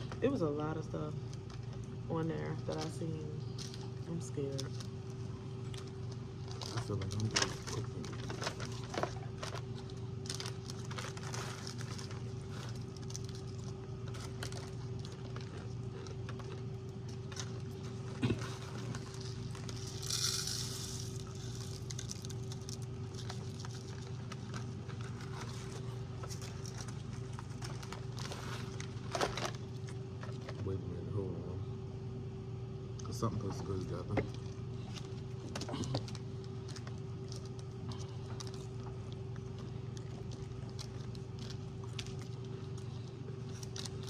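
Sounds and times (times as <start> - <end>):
low electrical hum: 0.0 - 44.0
plastic packets tapping and rustling: 1.4 - 30.7, 33.5 - 44.0.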